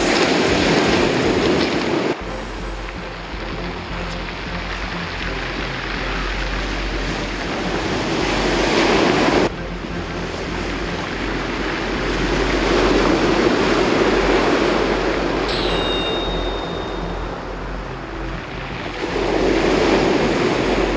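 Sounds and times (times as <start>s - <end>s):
surf washing up pebble beach: 0.0s - 20.9s
wind buffeting microphone: 0.0s - 20.9s.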